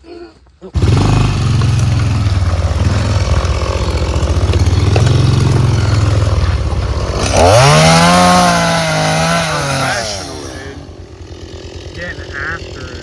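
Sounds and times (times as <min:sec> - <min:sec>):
chainsaw idling and revving: 0:00.7 - 0:13.0.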